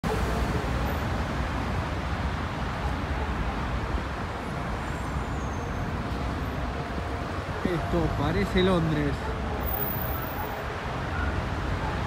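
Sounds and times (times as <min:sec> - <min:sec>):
highway traffic rushing: 0:00.0 - 0:12.0.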